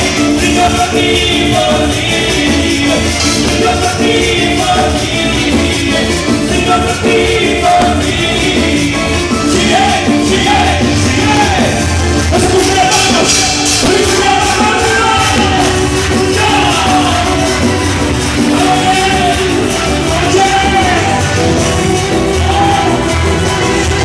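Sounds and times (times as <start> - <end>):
band playing latin pop music: 0.0 - 24.0
person singing: 0.0 - 24.0.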